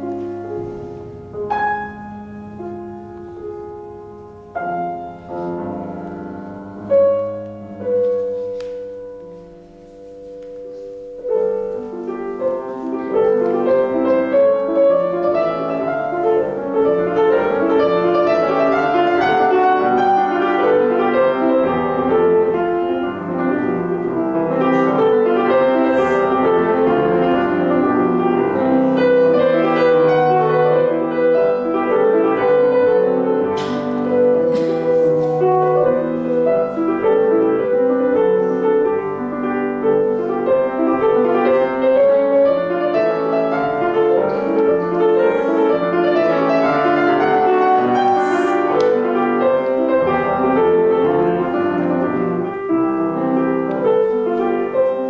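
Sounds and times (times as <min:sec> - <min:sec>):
piano: 0:00.0 - 0:55.0.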